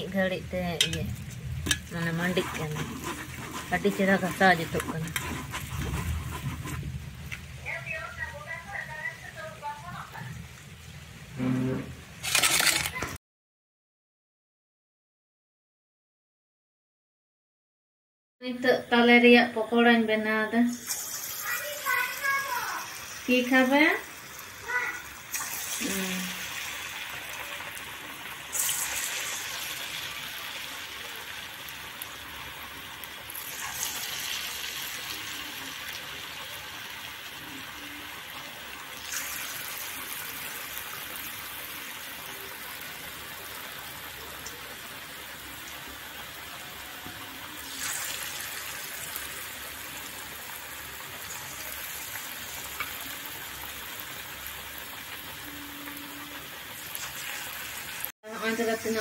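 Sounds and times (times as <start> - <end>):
batter sizzling in hot oil: 0.0 - 13.1, 19.8 - 59.0.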